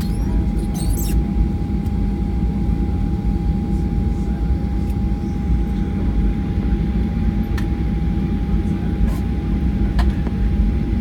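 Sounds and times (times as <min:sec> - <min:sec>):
airplane cabin low rumble: 0:00.0 - 0:11.0.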